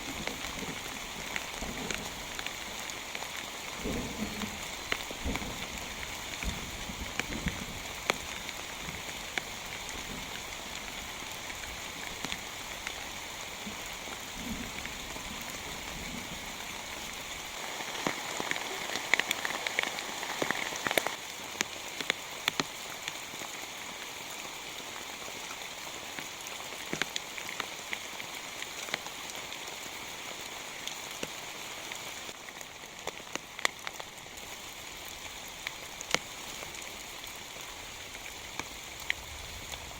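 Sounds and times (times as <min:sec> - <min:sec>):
heavy rain: 0:00.0 - 0:39.9
raindrops tapping on surface: 0:00.0 - 0:39.9.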